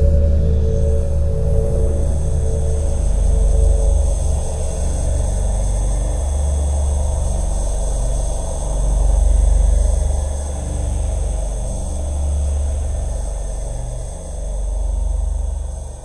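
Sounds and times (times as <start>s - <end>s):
deep low rumble drone: 0.0s - 16.0s.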